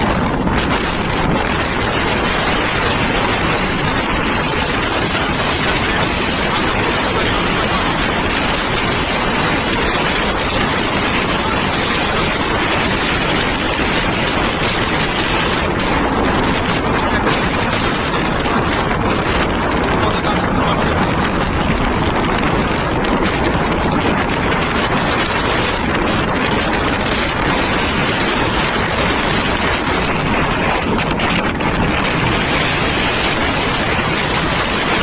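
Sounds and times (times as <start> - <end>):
strong wind buffeting microphone: 0.0 - 35.0
surf breaking on shore: 0.0 - 35.0.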